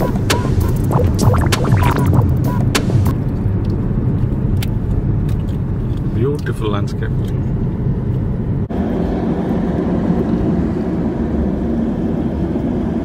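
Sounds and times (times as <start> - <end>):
car cabin road and engine rumble: 2.2 - 13.0.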